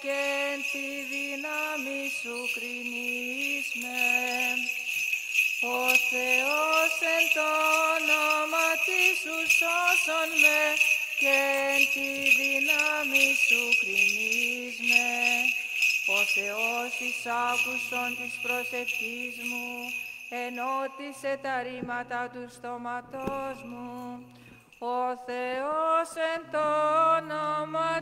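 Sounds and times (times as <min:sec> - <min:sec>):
censer bells jingling: 0:00.0 - 0:21.7, 0:23.2 - 0:25.4.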